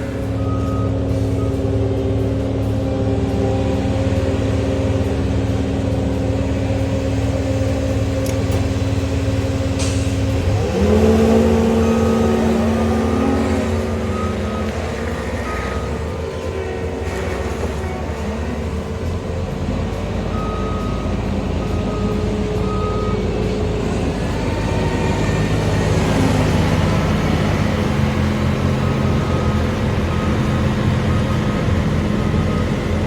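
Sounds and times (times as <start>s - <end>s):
track loader engine droning: 0.0s - 33.0s.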